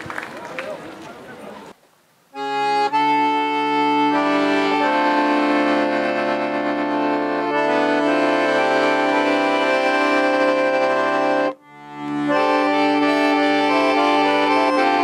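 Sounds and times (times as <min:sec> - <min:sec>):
accordion playing held chords: 0:02.3 - 0:15.0.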